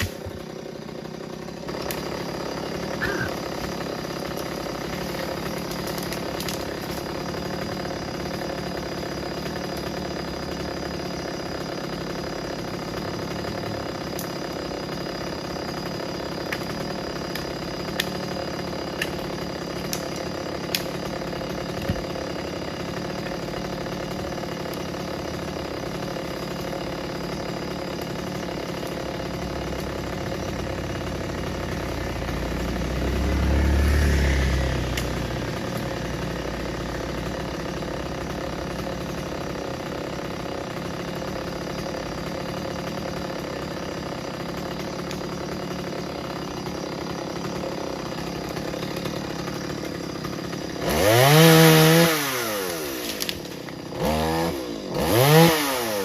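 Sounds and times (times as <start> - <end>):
engine idling: 0.0 - 51.4.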